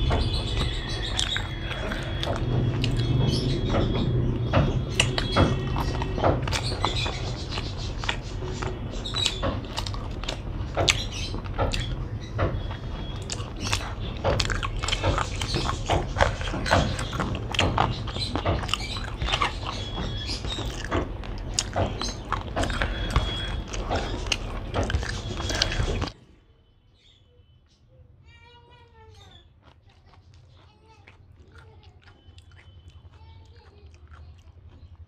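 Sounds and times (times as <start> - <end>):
wet chewing with mouth clicks: 0.0 - 26.2, 29.3 - 35.0.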